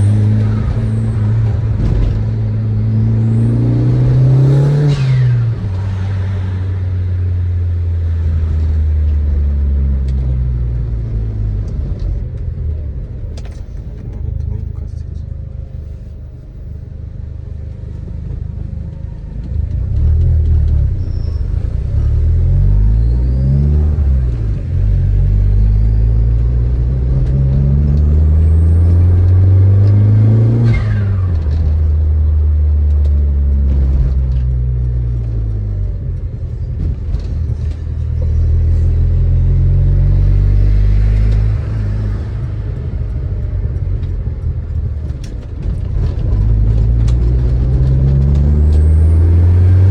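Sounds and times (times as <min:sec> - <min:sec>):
car engine revving: 0:00.0 - 0:15.0, 0:19.5 - 0:49.9.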